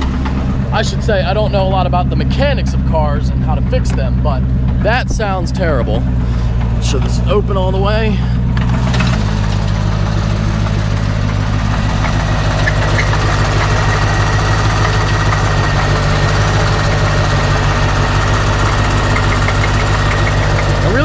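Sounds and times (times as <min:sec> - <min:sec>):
car engine idling: 0:00.0 - 0:21.0
rapid engine knocking: 0:00.0 - 0:21.0.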